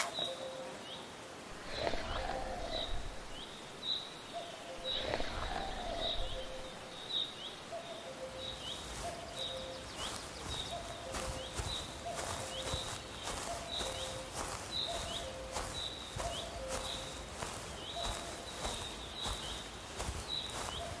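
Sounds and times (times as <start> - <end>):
birds chirping: 0.0 - 21.0
outdoor background: 0.0 - 21.0.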